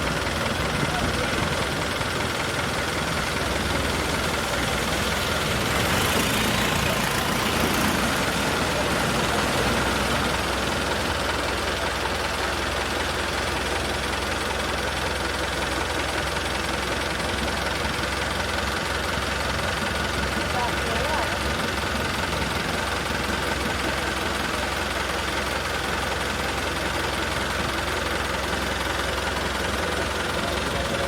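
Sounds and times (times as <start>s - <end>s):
engine droning: 0.0s - 31.0s.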